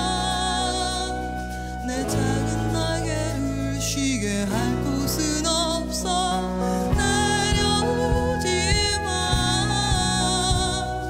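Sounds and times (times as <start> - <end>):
flute: 0.0 - 11.0
soft band accompaniment: 0.0 - 11.0
woman singing with vibrato: 0.0 - 11.0.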